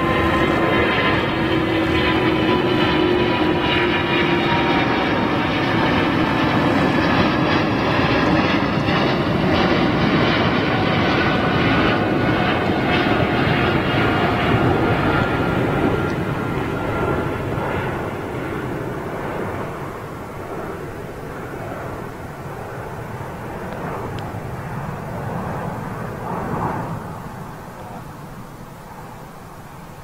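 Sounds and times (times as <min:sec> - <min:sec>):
jet engine rumble: 0:00.0 - 0:30.0.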